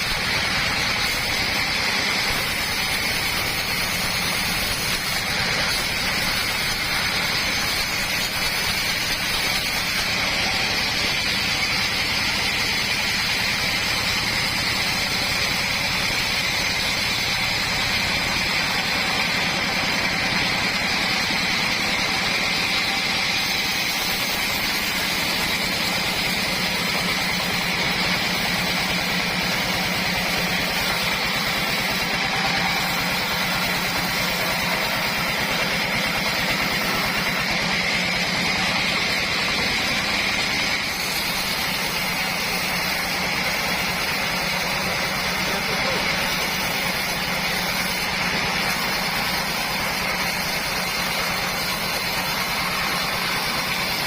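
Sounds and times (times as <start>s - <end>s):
sawmill running: 0.0s - 54.0s.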